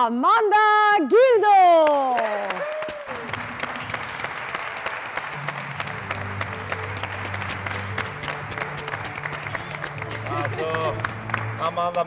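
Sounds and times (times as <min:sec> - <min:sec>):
audience clapping: 0:01.7 - 0:12.0.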